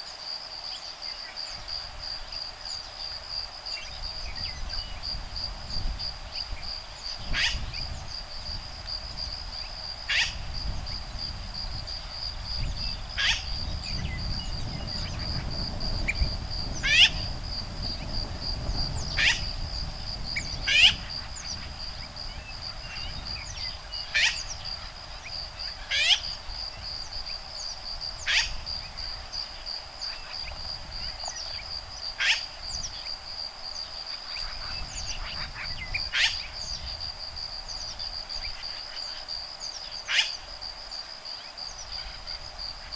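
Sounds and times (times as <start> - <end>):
high trill of insects: 0.0 - 42.9
low rumble of breeze: 0.0 - 42.9.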